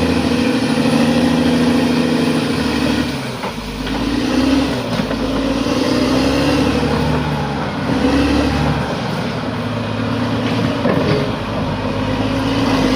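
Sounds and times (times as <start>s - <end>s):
bulldozer diesel engine under load: 0.0s - 12.9s.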